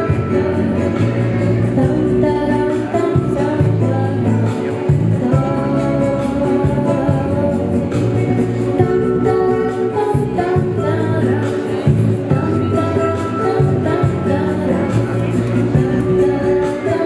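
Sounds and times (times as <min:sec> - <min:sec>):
backing track with bass and beat: 0:00.0 - 0:17.0
boy singing pop song: 0:00.0 - 0:17.0.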